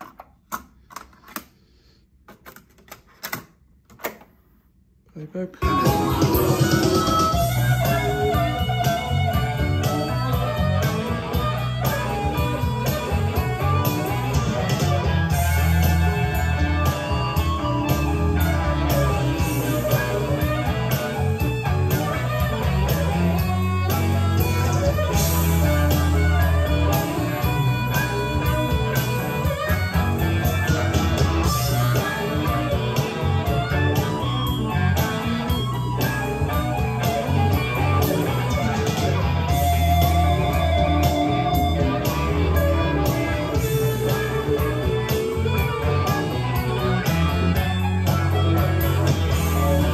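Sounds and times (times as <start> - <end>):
blues-rock song with electric guitar: 5.6 - 49.9.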